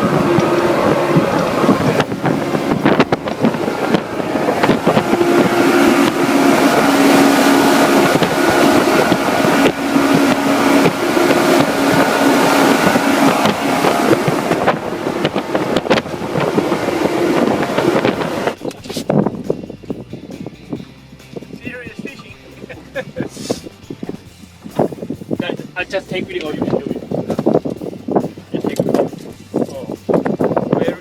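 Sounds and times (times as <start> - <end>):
boat motor humming: 0.0 - 31.0
wind noise on microphone: 0.0 - 31.0.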